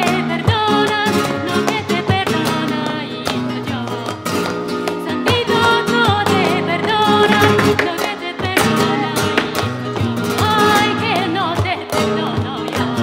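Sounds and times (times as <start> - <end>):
flamenco guitars: 0.0 - 13.0
hand-claps: 0.0 - 13.0
woman singing: 0.0 - 13.0
dancer's heel strikes: 0.5 - 13.0.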